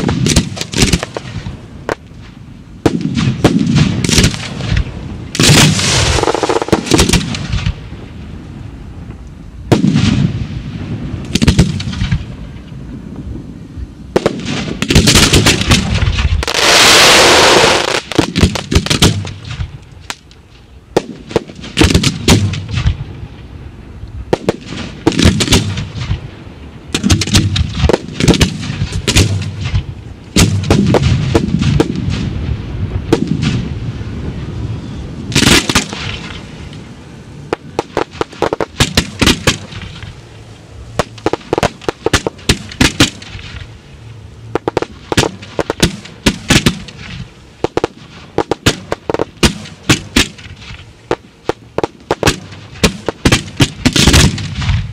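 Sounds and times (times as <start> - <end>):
sharp firework cracks: 0.0 - 8.1, 9.1 - 12.6, 14.1 - 23.3, 24.3 - 34.0, 35.3 - 40.4, 41.0 - 43.8, 44.5 - 54.9
firework booms: 0.0 - 8.5, 9.6 - 19.8, 20.9 - 23.4, 24.2 - 36.8, 37.5 - 40.2, 41.0 - 43.7, 44.5 - 54.9.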